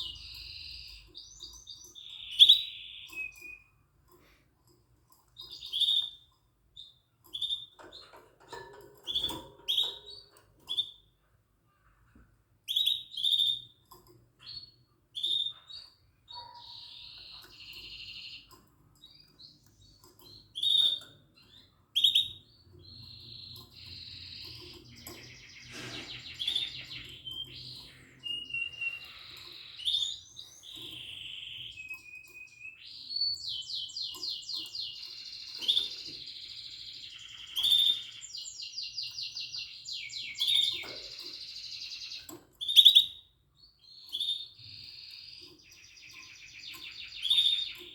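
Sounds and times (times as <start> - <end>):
canaries chirping and trilling: 0.0 - 47.9.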